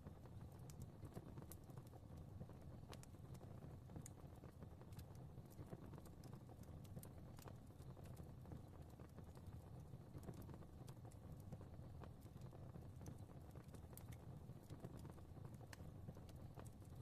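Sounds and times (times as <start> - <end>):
low rumble of burning: 0.0 - 17.0
wood fire popping and snapping: 0.0 - 17.0.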